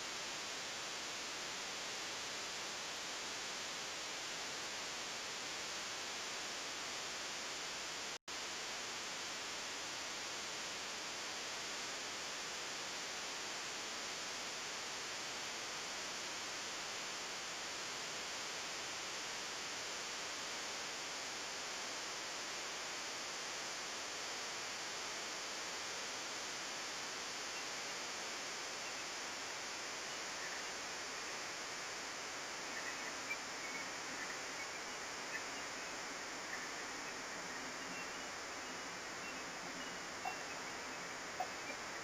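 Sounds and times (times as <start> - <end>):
static hiss: 0.0 - 42.0.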